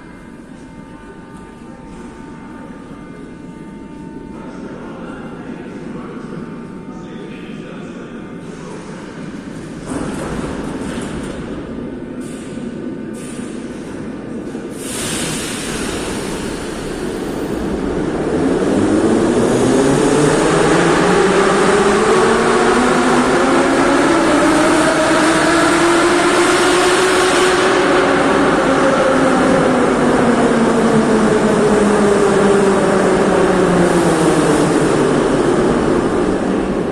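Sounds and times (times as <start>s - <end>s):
metro train rumble: 0.0s - 36.9s.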